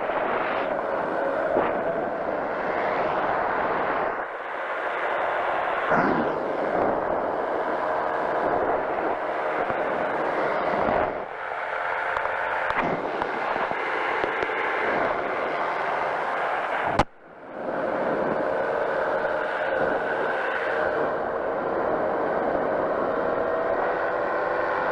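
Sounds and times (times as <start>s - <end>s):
engine and propeller droning: 0.0s - 24.9s.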